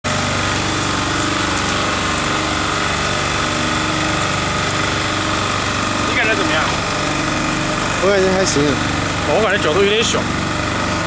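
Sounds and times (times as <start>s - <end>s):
transporter engine humming: 0.1s - 11.0s.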